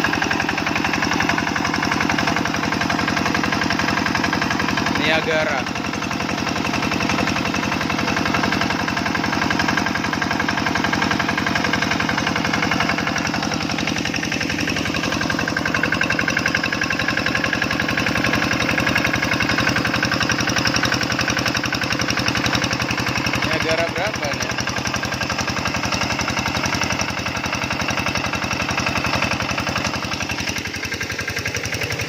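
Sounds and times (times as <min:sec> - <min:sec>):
diesel engine knocking: 0:00.0 - 0:32.0.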